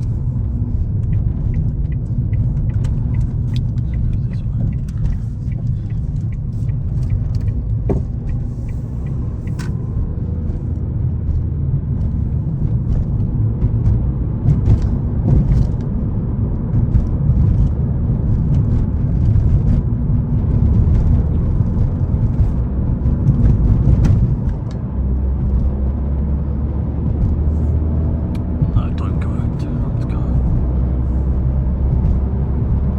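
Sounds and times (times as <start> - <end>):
car engine and road rumble: 0.0 - 32.9.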